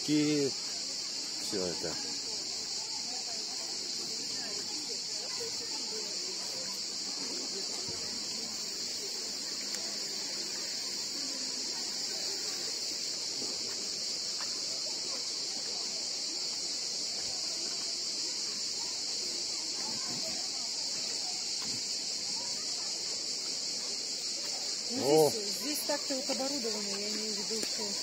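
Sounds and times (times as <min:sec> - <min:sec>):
cicadas chirring: 0:00.0 - 0:28.0
faint voices of people: 0:00.0 - 0:28.0.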